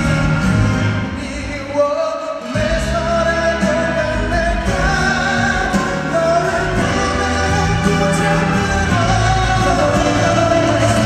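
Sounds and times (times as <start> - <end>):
backing music: 0.0 - 11.0
man singing a slow pop song: 0.0 - 11.0.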